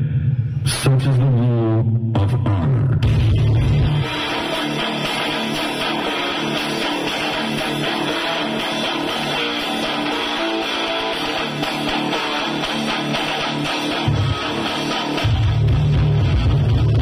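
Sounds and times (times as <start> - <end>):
loud guitar music over sound system: 3.0 - 17.0.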